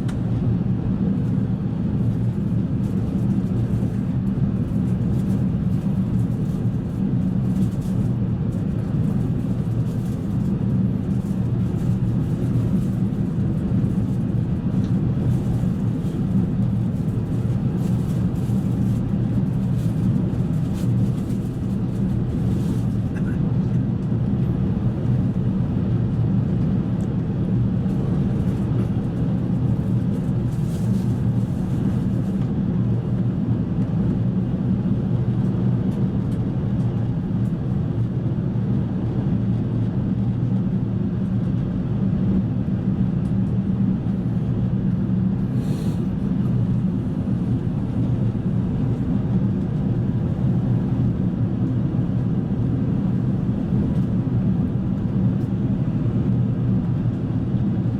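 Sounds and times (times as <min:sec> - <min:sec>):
airliner cabin drone: 0:00.0 - 0:57.9.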